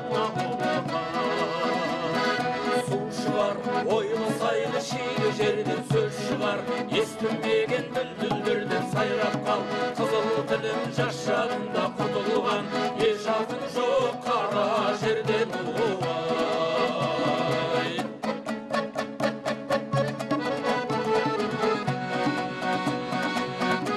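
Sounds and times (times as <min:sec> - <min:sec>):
folk music on instruments: 0:00.0 - 0:23.9.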